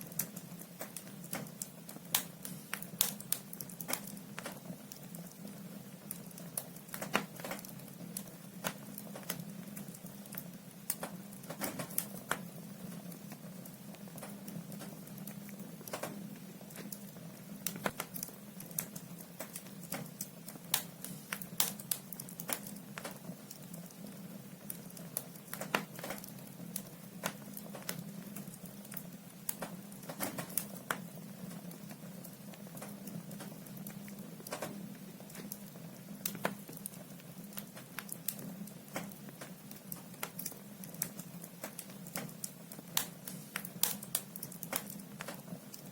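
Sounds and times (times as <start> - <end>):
logs crackling in fireplace: 0.0 - 45.9.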